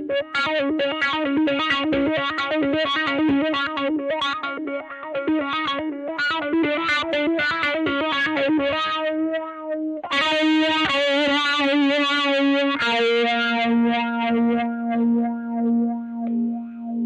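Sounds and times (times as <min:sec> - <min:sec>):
electric guitar notes: 0:00.0 - 0:17.0.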